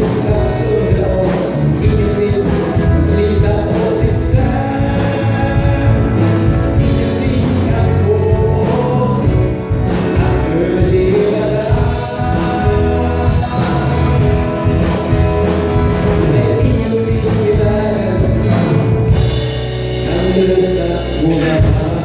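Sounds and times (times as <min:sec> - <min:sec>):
backing vocals: 0:00.0 - 0:18.8
drum kit steady beat: 0:00.0 - 0:22.0
keyboard: 0:00.0 - 0:22.0
person singing: 0:00.0 - 0:22.0.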